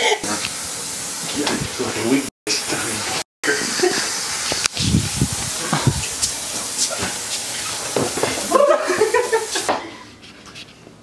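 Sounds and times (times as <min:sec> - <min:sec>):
steady hiss: 0:00.2 - 0:09.7.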